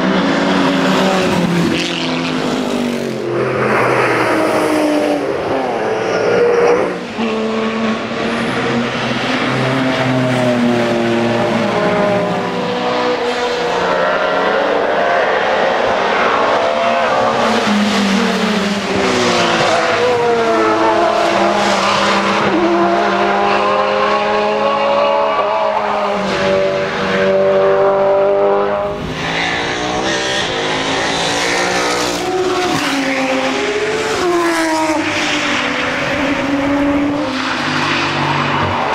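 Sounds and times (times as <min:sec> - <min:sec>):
race cars passing at speed: 0:00.0 - 0:38.9.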